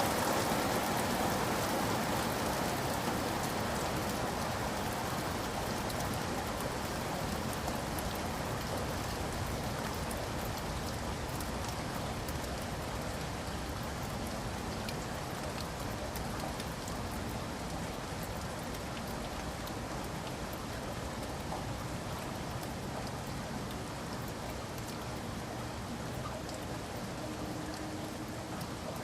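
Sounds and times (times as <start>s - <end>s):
raindrops ticking on a surface: 0.0s - 29.0s
steady rain: 0.0s - 29.0s.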